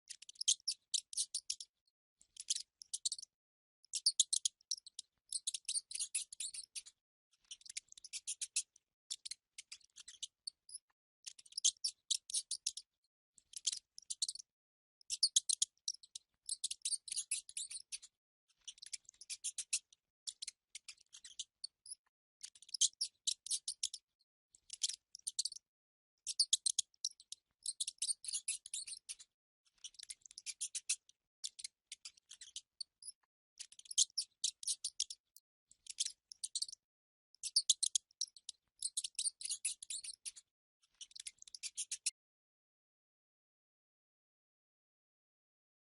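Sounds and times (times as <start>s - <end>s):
mice squeaking: 0.1s - 1.7s, 2.4s - 3.3s, 3.9s - 12.9s, 13.5s - 14.5s, 15.1s - 24.0s, 24.6s - 25.6s, 26.3s - 35.2s, 35.8s - 36.8s, 37.4s - 42.2s.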